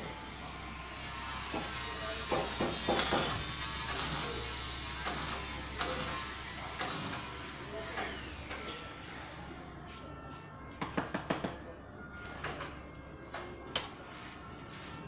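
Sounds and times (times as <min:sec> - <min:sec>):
low workshop hum: 0:00.0 - 0:15.0.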